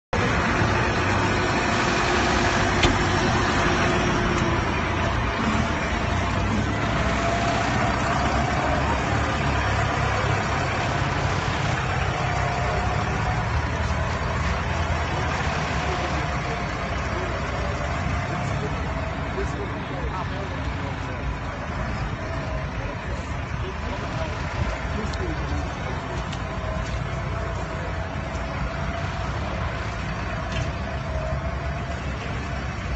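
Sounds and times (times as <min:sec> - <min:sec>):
tractor engine running: 0:00.1 - 0:32.9.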